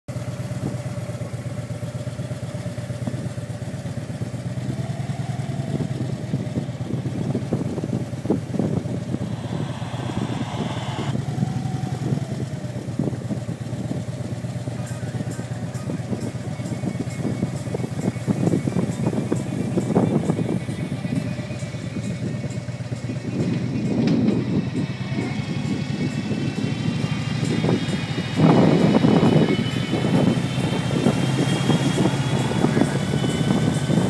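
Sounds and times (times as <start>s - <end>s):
motorcycle engine running: 0.1s - 34.0s.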